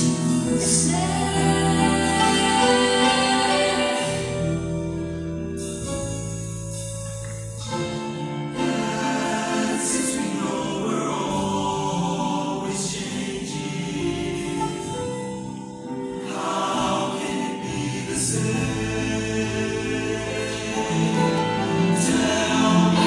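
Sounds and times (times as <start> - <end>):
choir singing in harmony: 0.0 - 5.7, 7.6 - 23.0.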